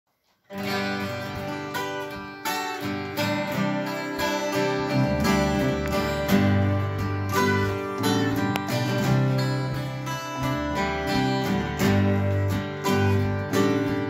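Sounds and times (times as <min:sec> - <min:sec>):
acoustic guitars strumming: 0:00.5 - 0:14.0.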